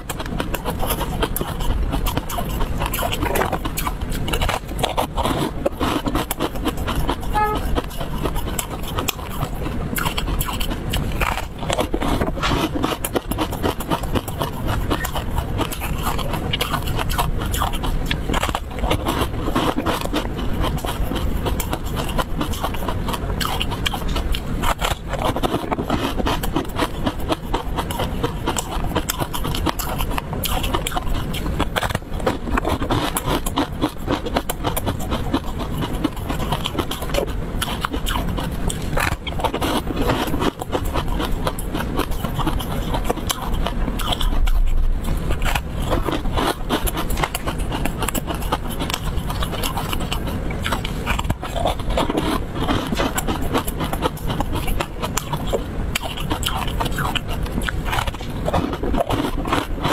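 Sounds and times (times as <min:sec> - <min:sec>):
crunching crisp snack: 0:00.0 - 0:59.9.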